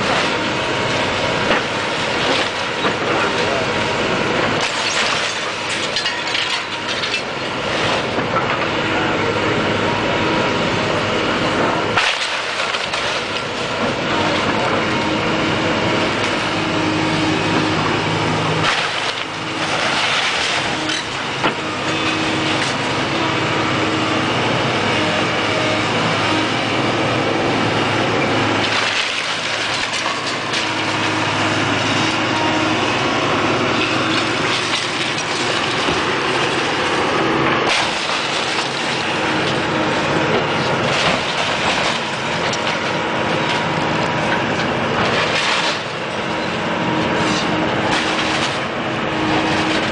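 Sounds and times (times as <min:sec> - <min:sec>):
demolition machine engine running: 0:00.0 - 0:49.9.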